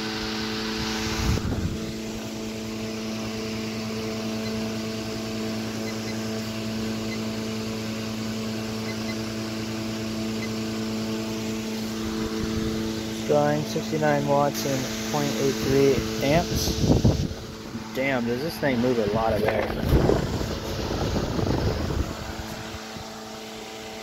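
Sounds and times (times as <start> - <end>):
electric fan motor hum: 0.0 - 24.0
fan blades rushing air: 0.0 - 24.0.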